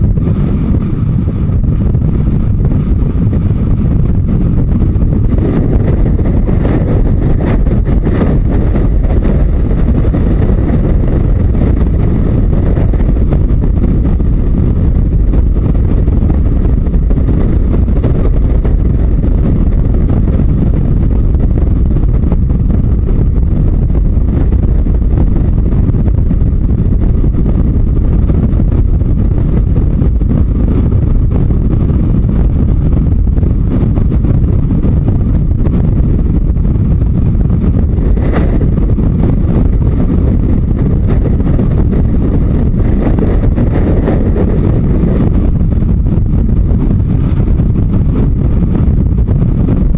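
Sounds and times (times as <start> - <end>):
motorcycle engine: 0.0 - 49.9
wind rush on microphone: 0.0 - 49.9.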